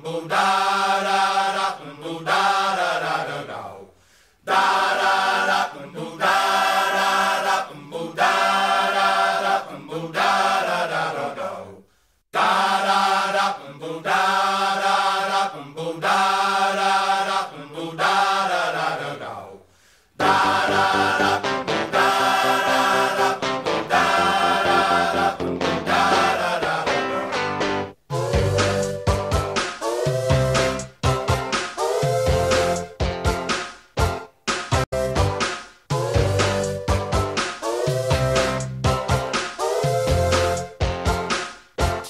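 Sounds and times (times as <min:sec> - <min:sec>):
voices singing held chords: 0:00.0 - 0:03.8, 0:04.4 - 0:19.5, 0:20.2 - 0:33.4, 0:35.9 - 0:41.2.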